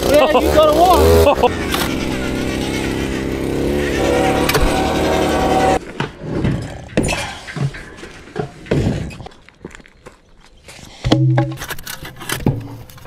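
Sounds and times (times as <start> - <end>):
wooden posts and metal gate clinking: 0.0 - 10.0, 11.0 - 13.0.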